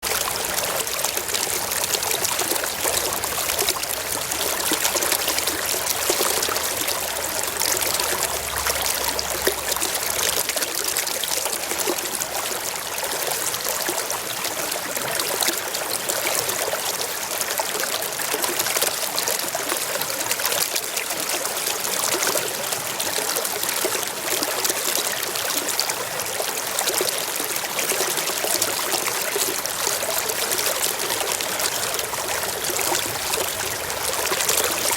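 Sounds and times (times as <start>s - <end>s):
stream flowing over rocks: 0.0s - 34.9s.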